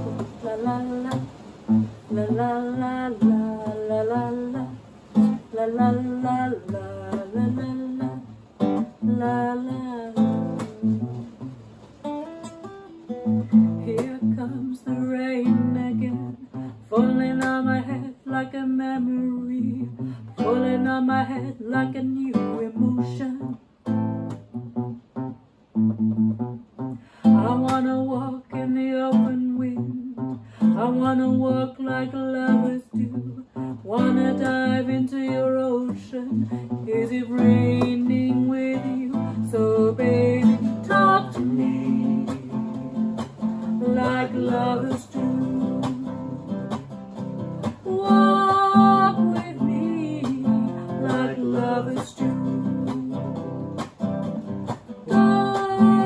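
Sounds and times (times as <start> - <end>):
man and woman singing: 0.0 - 11.3, 13.6 - 23.6, 27.2 - 46.9, 47.6 - 53.8, 54.9 - 56.0
acoustic guitar strumming: 0.0 - 56.0.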